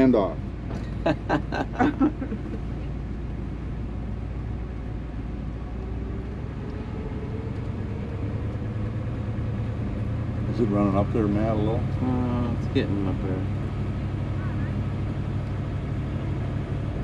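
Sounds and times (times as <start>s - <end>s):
car engine low rumble: 0.0s - 17.0s
faint rising tone: 2.4s - 16.9s.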